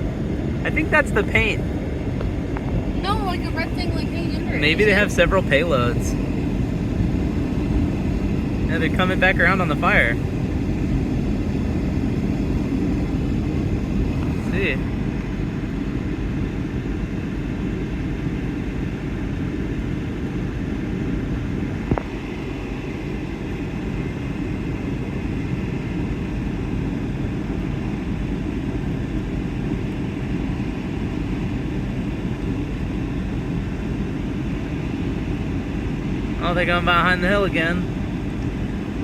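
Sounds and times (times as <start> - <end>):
propeller airplane drone: 0.0 - 39.0.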